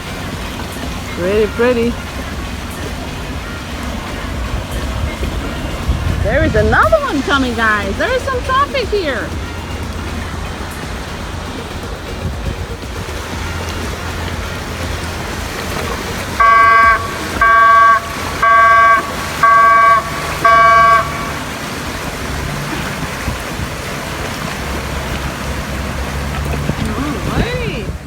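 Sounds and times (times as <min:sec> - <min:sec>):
horn blasts: 0:00.0 - 0:28.0
low rumble: 0:00.0 - 0:28.0.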